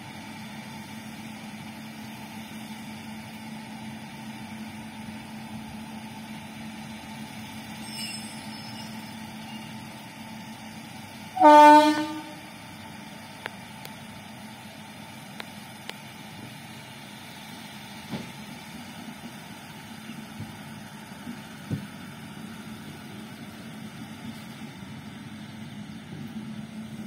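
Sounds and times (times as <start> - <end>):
electric locomotive humming: 0.0 - 27.0.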